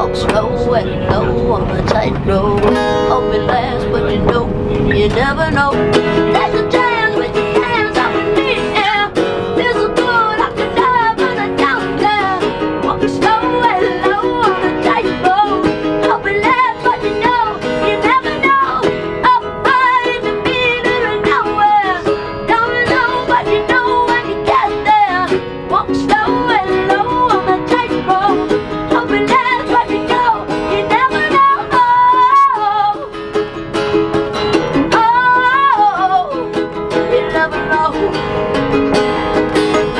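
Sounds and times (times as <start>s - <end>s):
woman singing: 0.0s - 33.4s, 34.7s - 38.3s
strummed ukulele and guitar: 0.0s - 39.9s.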